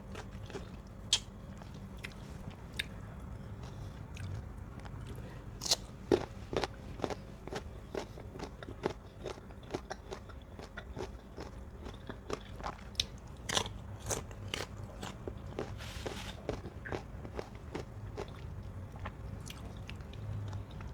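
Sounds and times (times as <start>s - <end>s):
crunchy biting and chewing: 0.0s - 20.9s.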